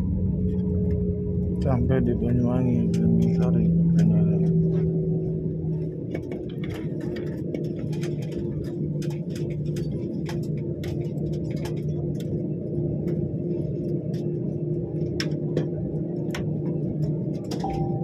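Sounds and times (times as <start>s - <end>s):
jet engine hum: 0.0s - 18.0s.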